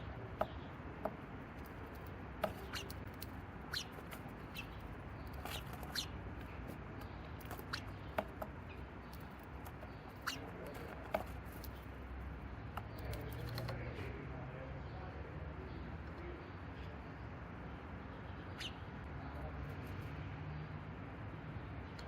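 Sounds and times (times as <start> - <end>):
low background hum: 0.0 - 22.0
small birds chirping: 0.0 - 22.0.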